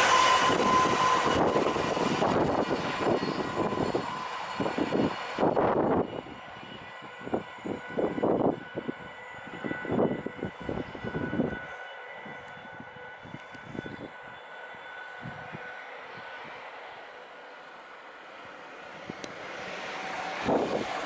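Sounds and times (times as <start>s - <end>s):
wind buffeting microphone: 0.0s - 16.7s, 18.4s - 21.0s
train running past: 0.0s - 21.0s.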